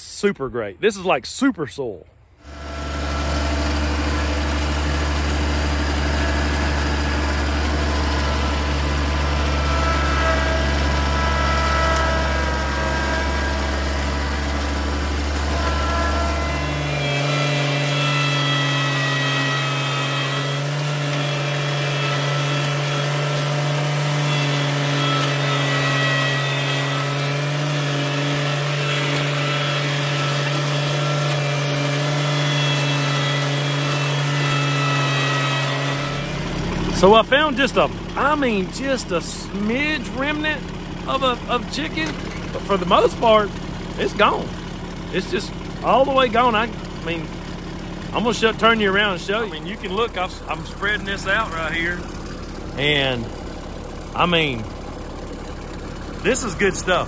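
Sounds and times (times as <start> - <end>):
tractor engine running: 2.4 - 57.0.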